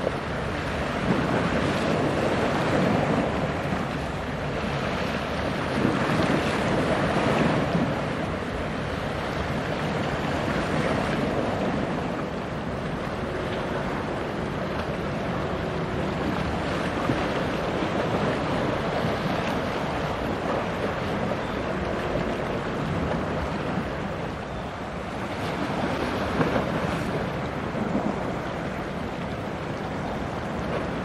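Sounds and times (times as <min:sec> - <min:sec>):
choppy sea water: 0:00.0 - 0:31.0
wind on microphone: 0:00.0 - 0:31.0.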